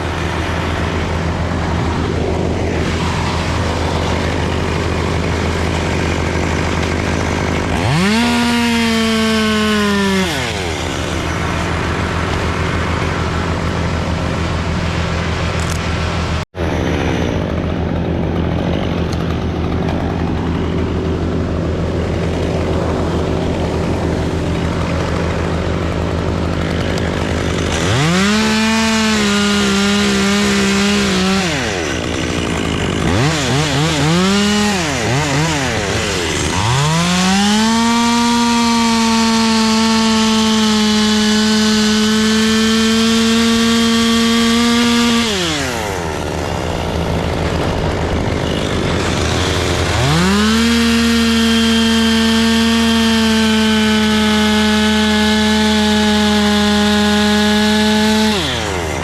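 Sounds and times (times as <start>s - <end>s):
chainsaw cutting wood: 0.0s - 59.0s
chainsaw idling and revving: 0.0s - 59.0s.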